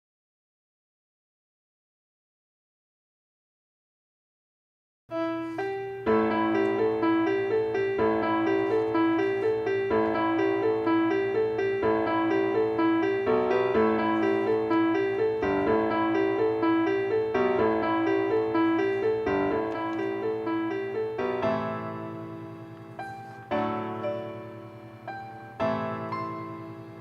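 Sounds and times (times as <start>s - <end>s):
piano music: 5.1s - 27.0s.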